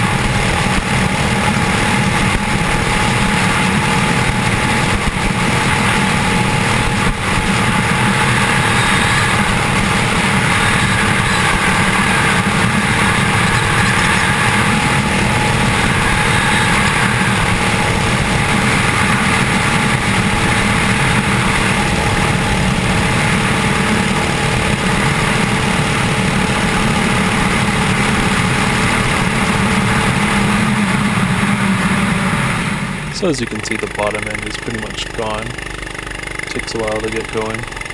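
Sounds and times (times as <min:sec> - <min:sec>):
small single-cylinder engine running: 0:00.0 - 0:37.9.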